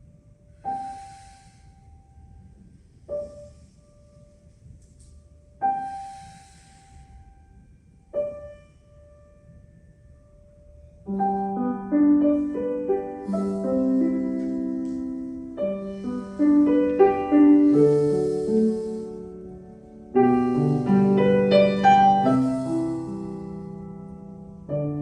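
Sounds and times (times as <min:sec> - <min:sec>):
piano notes and chords: 0:00.0 - 0:25.0.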